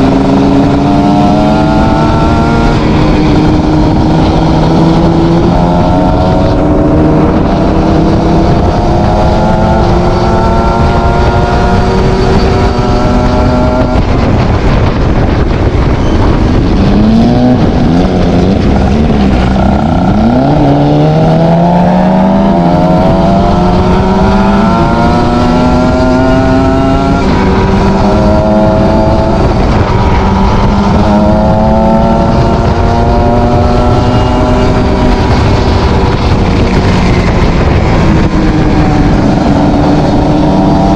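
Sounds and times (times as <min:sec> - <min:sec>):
motorcycle exhaust revving: 0:00.0 - 0:40.9.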